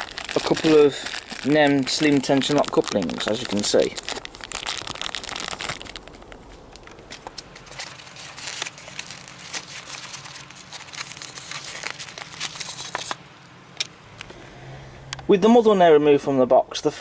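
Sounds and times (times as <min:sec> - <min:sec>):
plastic bag crinkling: 0:00.0 - 0:14.5
polystyrene and tissue paper handled: 0:00.0 - 0:14.5.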